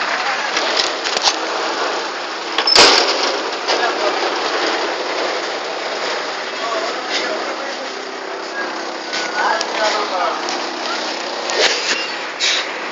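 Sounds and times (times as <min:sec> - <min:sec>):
bus interior noise: 0:00.0 - 0:12.9.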